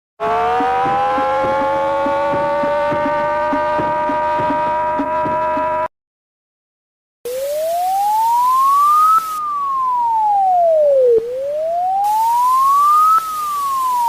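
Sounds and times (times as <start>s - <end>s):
electronic siren tone wailing: 0.2s - 5.9s, 7.3s - 14.0s.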